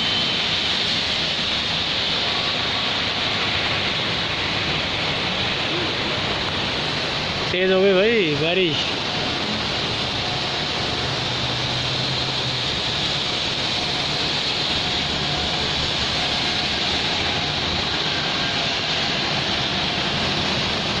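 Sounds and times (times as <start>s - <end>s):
heavy rain on wet road: 0.0s - 21.0s
low hum of passing traffic: 0.0s - 21.0s.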